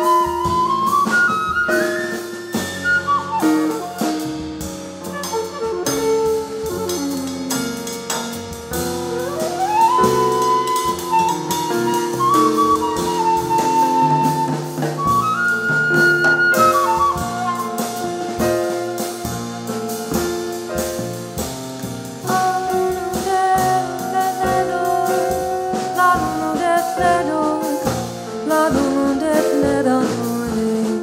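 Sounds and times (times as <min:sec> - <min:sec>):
drum kit strokes: 0:00.0 - 0:31.0
jazz band playing: 0:00.0 - 0:31.0.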